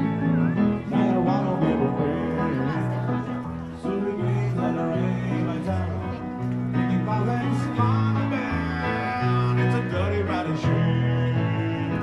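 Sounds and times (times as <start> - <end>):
music with bass and melody: 0.0 - 12.0.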